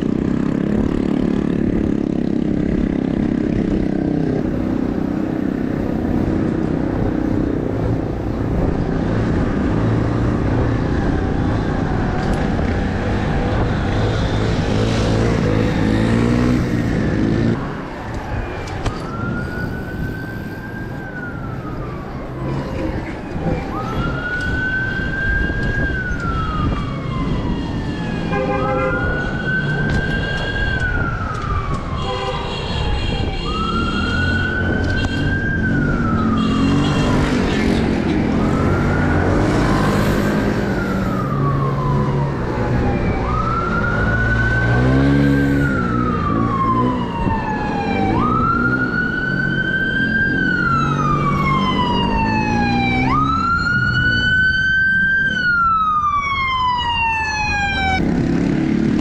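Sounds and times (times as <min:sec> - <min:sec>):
wind and road noise: 0:00.0 - 0:59.0
siren wailing: 0:00.4 - 0:59.0.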